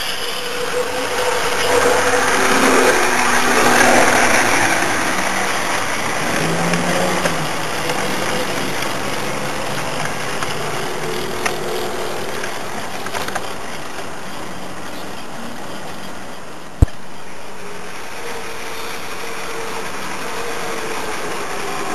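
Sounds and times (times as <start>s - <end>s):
model train running on track: 0.0s - 21.9s.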